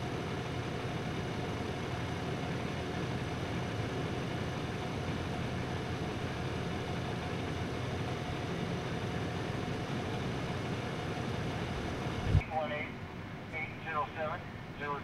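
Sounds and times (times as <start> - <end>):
fire engine idling: 0.0 - 15.0.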